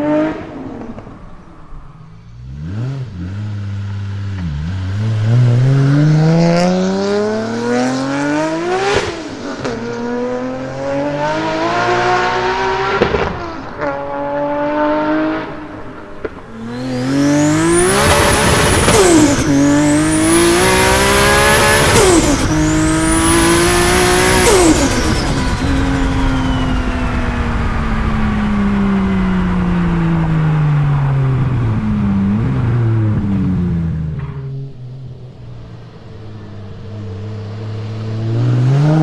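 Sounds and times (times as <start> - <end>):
car engine revving hard: 0.0 - 1.4, 2.2 - 34.4, 37.5 - 39.0.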